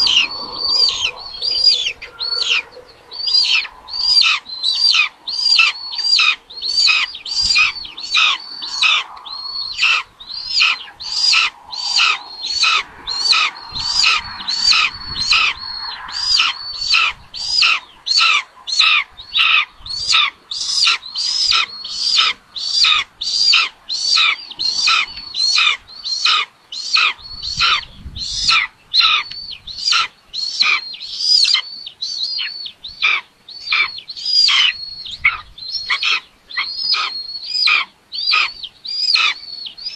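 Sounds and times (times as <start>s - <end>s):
nestlings begging calls: 0.0s - 39.9s.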